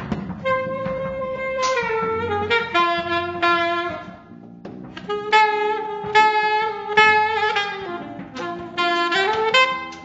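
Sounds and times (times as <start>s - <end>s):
saxophone long held notes: 0.4s - 4.3s, 4.9s - 10.0s.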